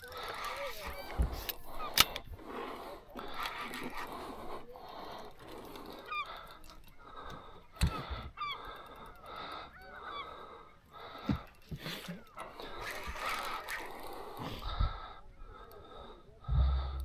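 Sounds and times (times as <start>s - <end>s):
birds honking: 0.0s - 16.4s.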